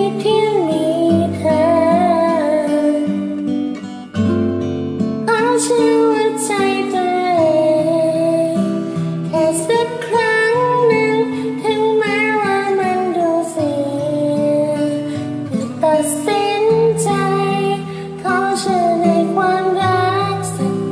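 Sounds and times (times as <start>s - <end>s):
woman singing: 0.0s - 4.1s, 5.2s - 20.9s
acoustic guitar: 0.0s - 20.9s.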